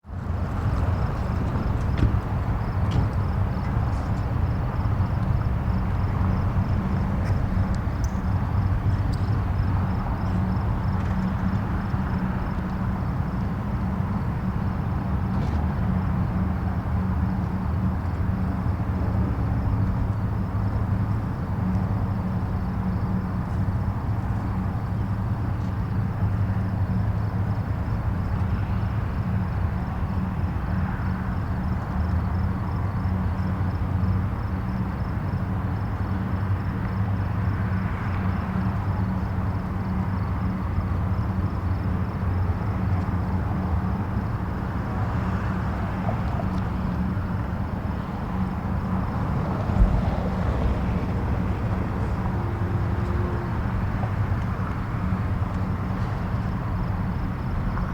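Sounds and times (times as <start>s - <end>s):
distant highway traffic rumble: 0.0s - 57.9s.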